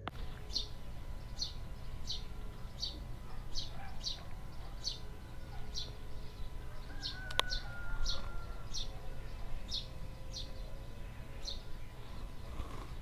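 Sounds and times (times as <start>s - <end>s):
low outdoor rumble: 0.0s - 13.0s
songbird chirping: 0.0s - 13.0s.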